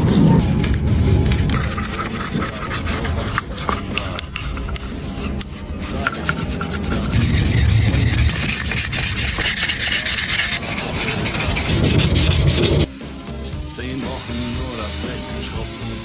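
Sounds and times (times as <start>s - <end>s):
sanding rasp: 0.0s - 16.0s.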